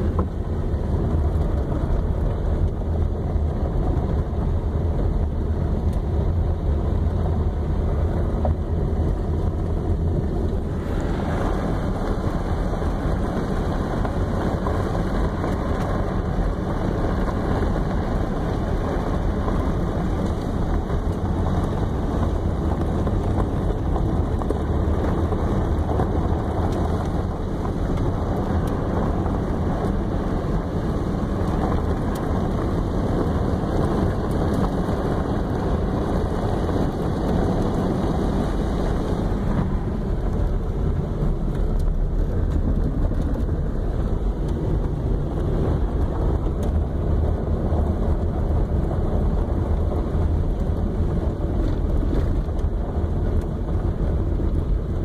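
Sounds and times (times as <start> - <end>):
tyres rumbling on gravel: 0.0 - 55.0
wind noise: 0.0 - 55.0.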